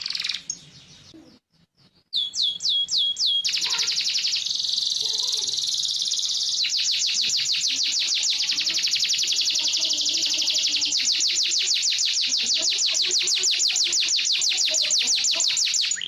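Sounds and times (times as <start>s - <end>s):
canary singing trills: 0.0s - 16.0s.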